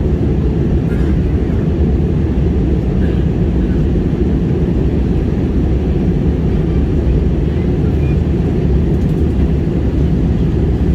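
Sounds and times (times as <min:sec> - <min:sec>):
airliner engines rumbling: 0:00.0 - 0:10.9
rushing air in cabin: 0:00.0 - 0:10.9.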